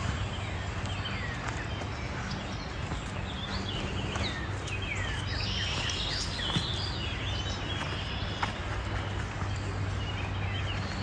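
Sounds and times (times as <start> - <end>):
birds chirping and trilling: 0.0 - 11.0
steady low rumble: 0.0 - 11.0.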